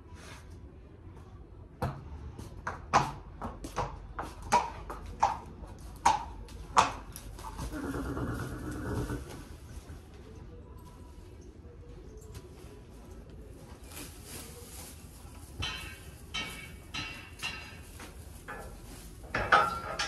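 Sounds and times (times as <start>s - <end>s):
horse hooves on concrete: 1.2s - 11.0s, 12.3s - 20.0s.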